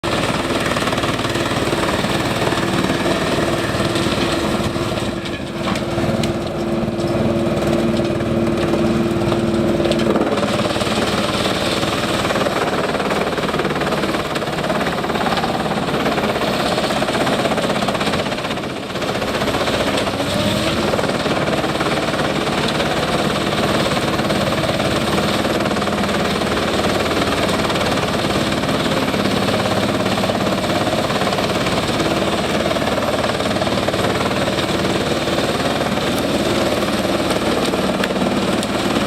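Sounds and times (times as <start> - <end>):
wood chipper running: 0.0 - 39.0.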